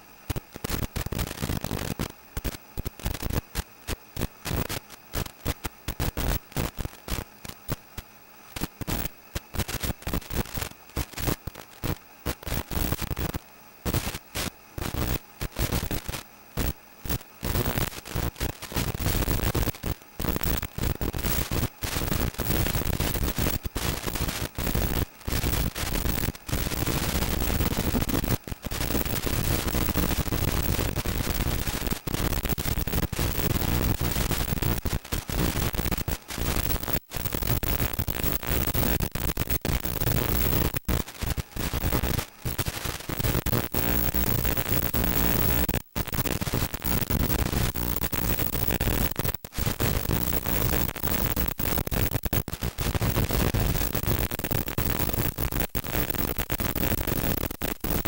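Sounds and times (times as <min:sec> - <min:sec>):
loud static hiss: 0:00.0 - 0:58.0.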